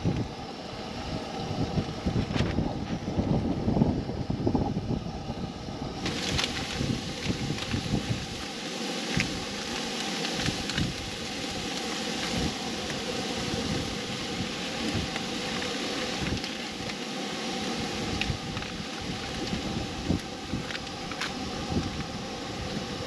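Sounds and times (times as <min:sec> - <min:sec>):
wind blowing across microphone: 0:00.0 - 0:23.0.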